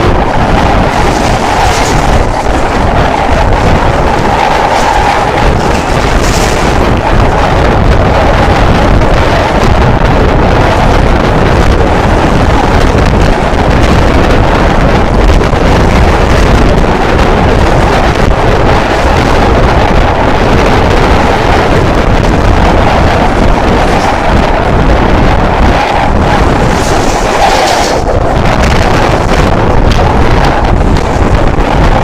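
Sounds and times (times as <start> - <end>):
train wheels rumbling on rail: 0.0 - 32.0
wind buffeting microphone: 0.0 - 32.0.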